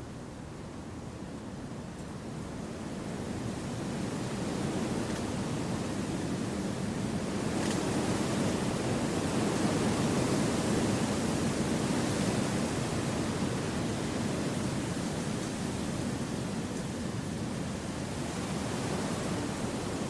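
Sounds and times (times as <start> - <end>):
wind rushing through trees: 2.7 - 20.0.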